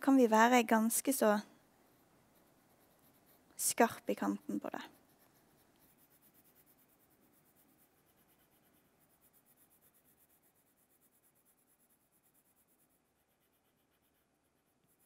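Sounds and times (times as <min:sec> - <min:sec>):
pencil scratching on paper: 0:01.6 - 0:15.0.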